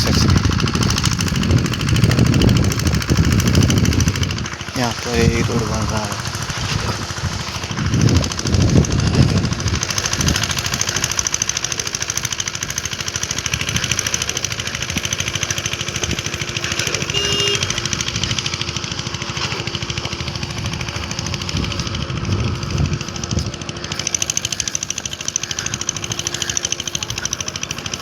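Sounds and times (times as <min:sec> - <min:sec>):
concrete pump engine chatter: 0:00.0 - 0:28.0.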